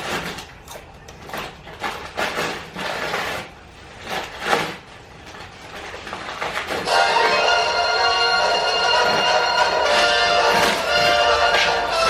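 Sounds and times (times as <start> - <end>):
objects scraping and knocking: 0.0 - 7.7, 8.4 - 12.0.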